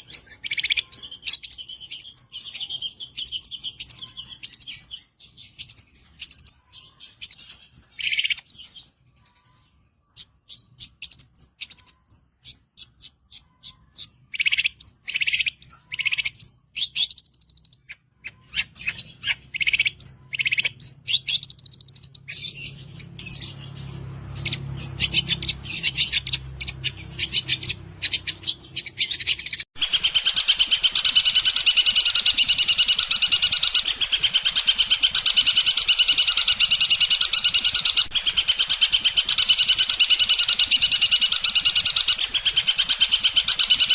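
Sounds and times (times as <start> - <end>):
bird singing chattering song: 0.0 - 43.9.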